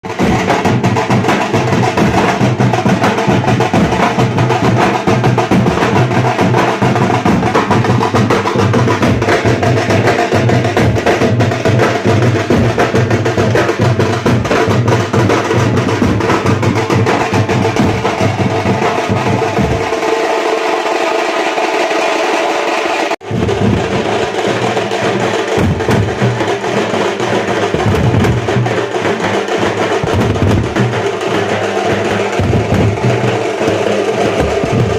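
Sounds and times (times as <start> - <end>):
deep dhol drum strokes: 0.0 - 21.8, 22.6 - 34.9
sharp tase drum rattle: 0.2 - 34.9.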